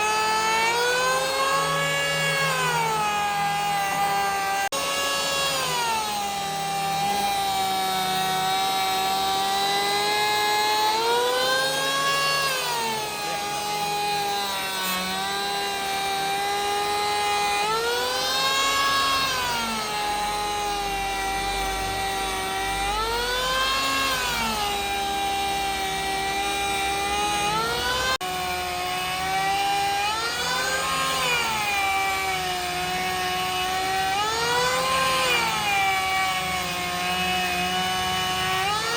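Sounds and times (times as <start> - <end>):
power tool motor whining: 0.0 - 38.9.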